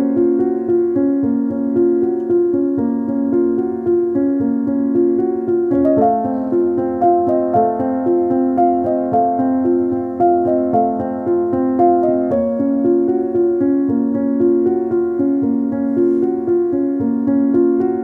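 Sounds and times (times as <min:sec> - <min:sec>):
gentle keyboard melody: 0:00.0 - 0:18.0.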